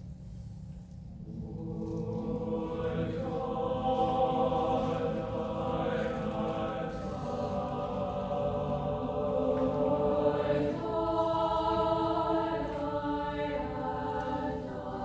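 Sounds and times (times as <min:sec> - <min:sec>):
choir singing held chords: 0:01.2 - 0:15.0.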